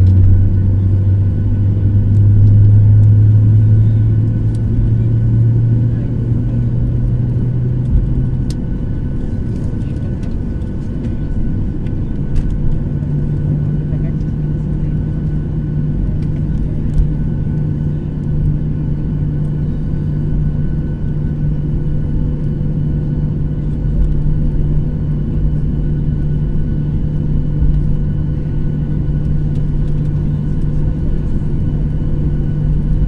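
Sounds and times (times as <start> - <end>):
faint high engine whine: 0.0 - 33.0
jet engines idling hum: 0.0 - 33.0.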